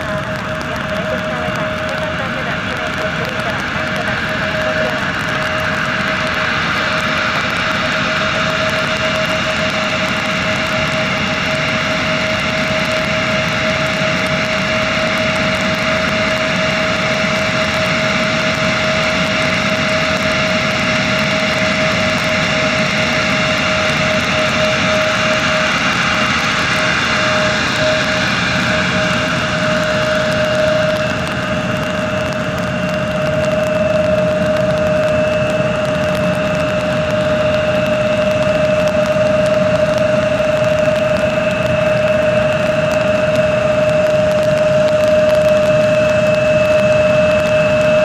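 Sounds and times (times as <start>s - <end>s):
jet engine whine: 0.0s - 48.0s.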